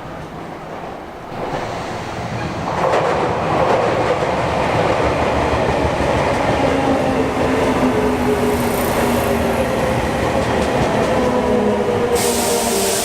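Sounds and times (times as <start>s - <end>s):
train wheels clattering on rails: 0.0s - 13.0s.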